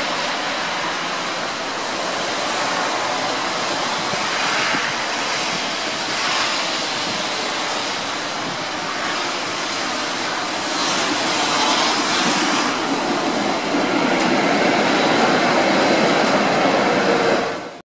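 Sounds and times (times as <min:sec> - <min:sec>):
tram wheels rumbling: 0:00.0 - 0:17.8.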